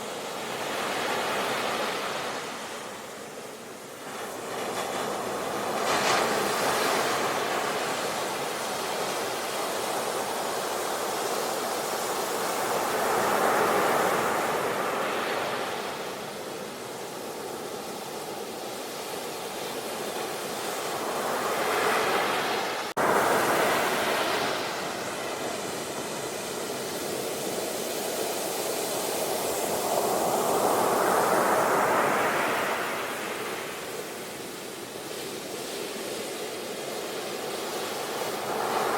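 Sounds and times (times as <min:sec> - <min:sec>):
sea surf washing onto shore: 0:00.0 - 0:38.9.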